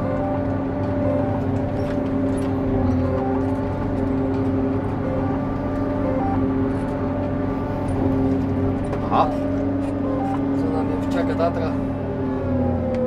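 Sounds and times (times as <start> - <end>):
harvester machine drone: 0.0 - 13.0.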